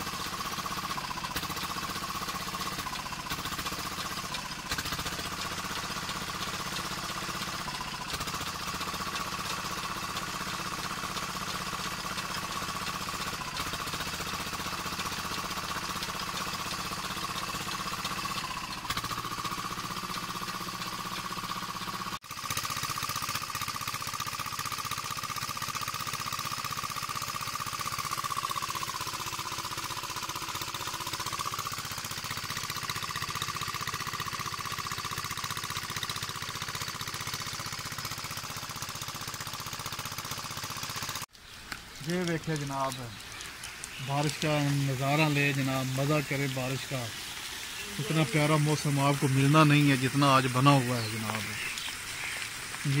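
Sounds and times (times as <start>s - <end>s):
chaff cutter whine: 0.0s - 53.0s
small engine drone: 0.0s - 53.0s.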